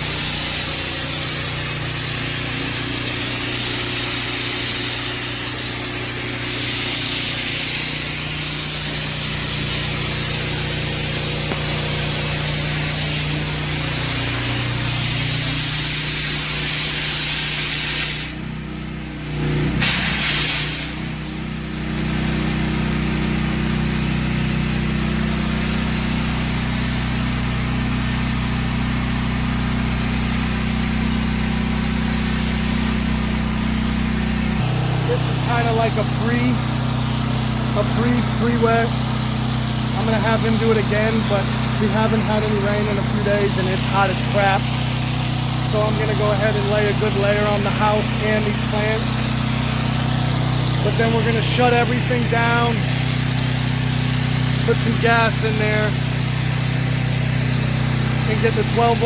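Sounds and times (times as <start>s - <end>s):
gas engine humming: 0.0s - 59.0s
pressure washer spraying water: 0.0s - 59.0s.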